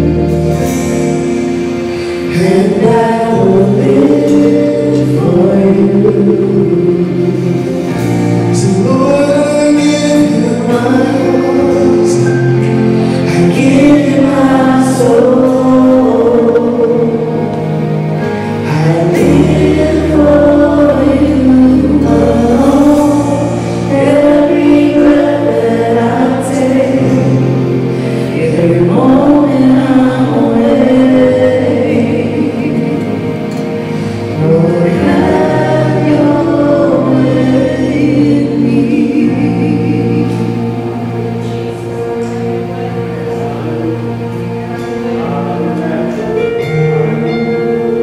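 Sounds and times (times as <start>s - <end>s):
choir singing gospel: 0.0s - 48.0s
sustained instrumental chords: 0.0s - 48.0s.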